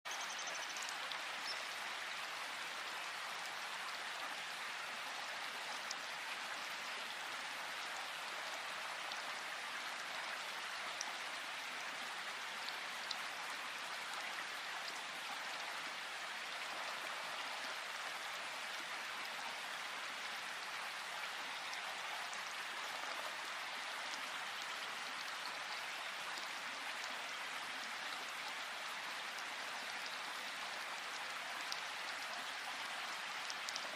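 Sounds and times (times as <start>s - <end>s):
gentle rain hiss: 0.1s - 33.9s.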